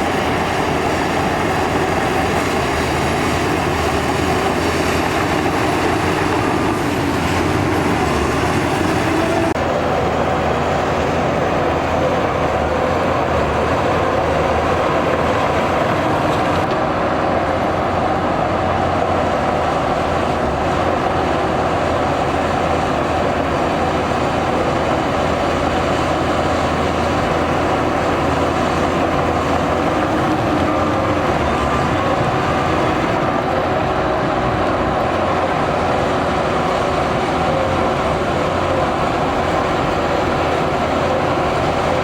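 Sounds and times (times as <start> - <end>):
diesel machinery engine drone: 0.0 - 42.0.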